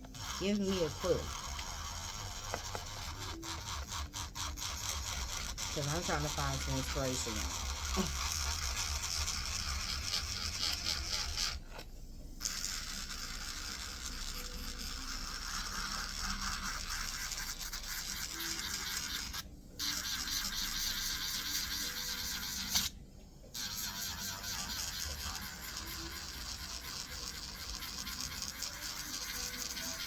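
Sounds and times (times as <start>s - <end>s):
nail file scratching: 0.0s - 11.8s, 12.4s - 23.0s, 23.6s - 30.0s.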